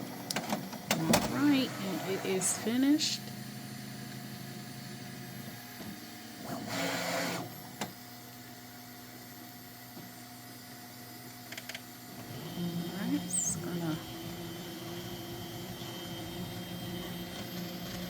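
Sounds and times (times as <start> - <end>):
printer humming: 0.0 - 18.0.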